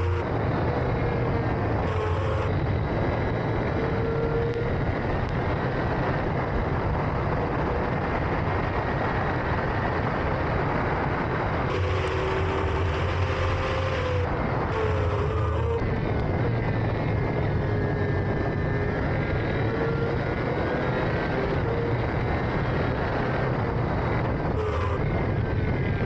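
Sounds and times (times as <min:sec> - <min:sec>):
racing engine running at speed: 0:00.0 - 0:26.0
steady rush of noise: 0:00.0 - 0:26.0.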